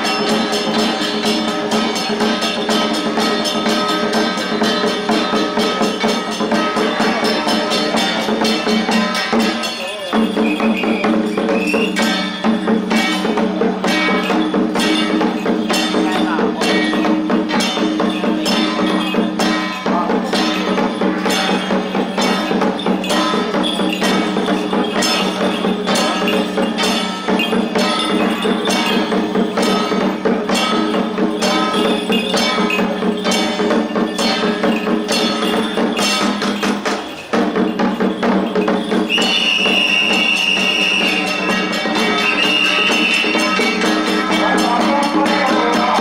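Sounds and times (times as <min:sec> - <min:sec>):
drum gongs and cymbals rhythm: 0:00.0 - 0:46.0.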